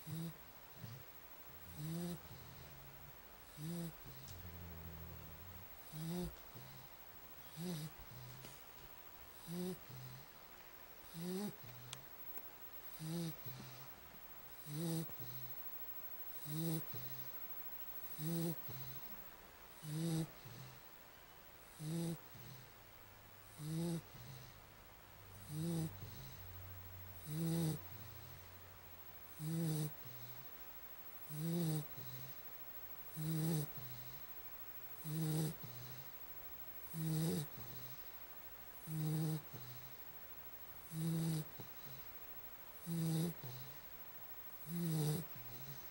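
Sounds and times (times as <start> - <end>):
low snoring with breathy hiss: 0.0 - 40.2, 40.8 - 45.9.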